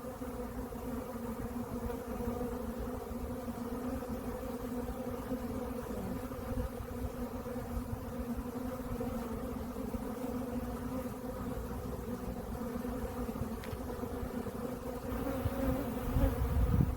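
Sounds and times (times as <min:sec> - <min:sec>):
honeybees buzzing: 0:00.0 - 0:16.9.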